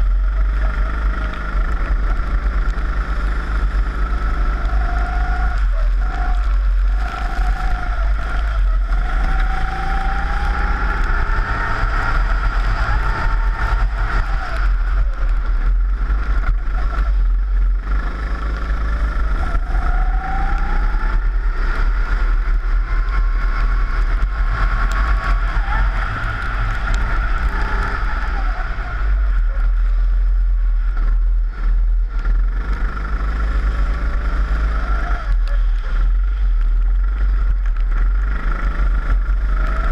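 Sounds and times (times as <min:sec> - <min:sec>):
kart engine revving: 0:00.0 - 0:39.9
low rumble: 0:00.0 - 0:39.9.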